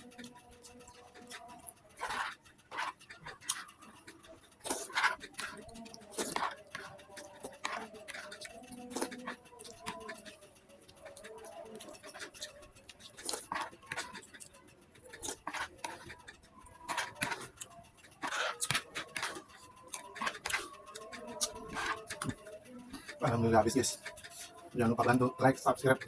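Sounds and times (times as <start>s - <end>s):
spoon scraping on a plate: 0.0s - 10.4s, 11.0s - 24.6s.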